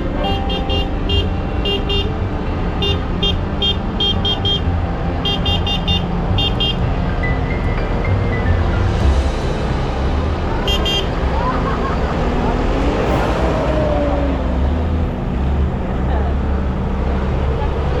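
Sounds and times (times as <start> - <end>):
tractor engines running: 0.0 - 18.0.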